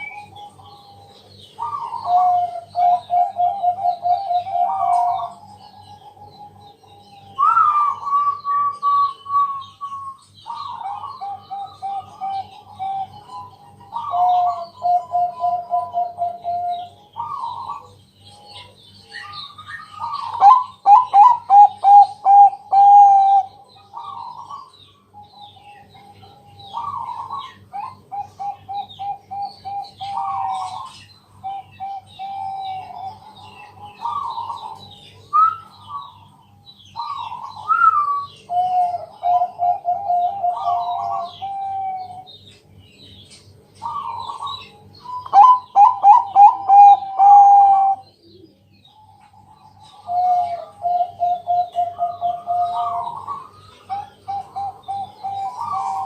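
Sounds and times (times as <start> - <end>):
dove cooing: 0.0 - 36.4, 37.0 - 42.4, 43.8 - 56.0.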